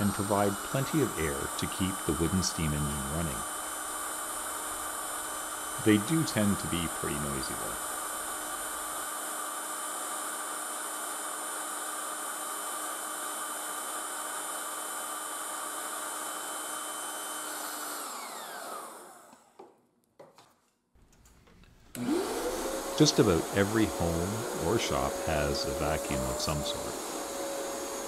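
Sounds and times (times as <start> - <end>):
air inflator whining: 0.0 - 19.6, 21.9 - 28.0.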